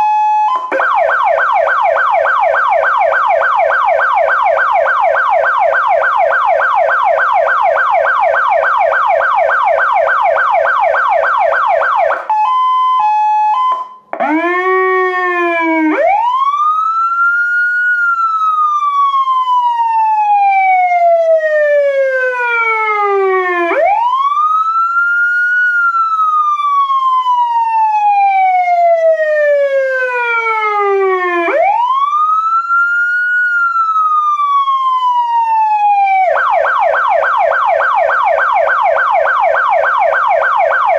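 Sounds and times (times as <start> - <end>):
electronic police siren: 0.0 - 40.9.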